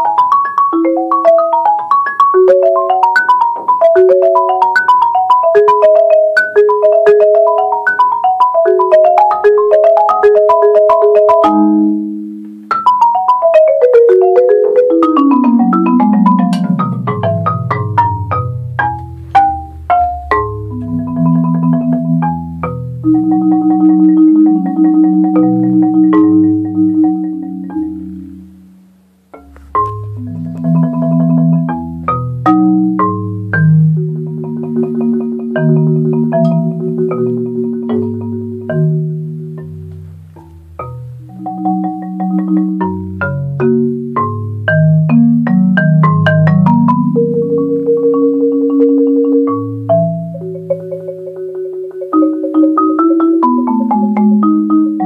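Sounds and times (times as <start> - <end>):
marimba played with mallets: 0.0 - 28.6, 29.3 - 55.0.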